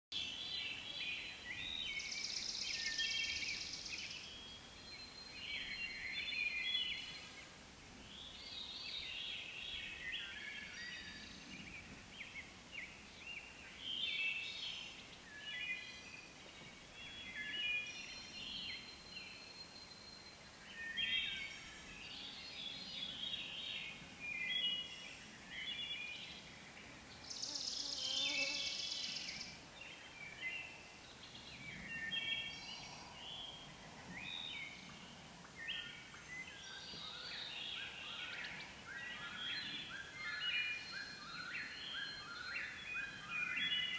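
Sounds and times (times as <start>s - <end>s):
songbirds singing: 0.1s - 43.9s.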